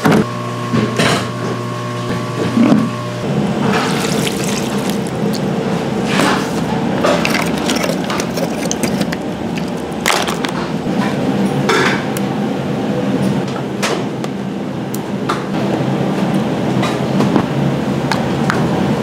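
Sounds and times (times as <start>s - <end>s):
steady kitchen hum: 0.0s - 19.0s.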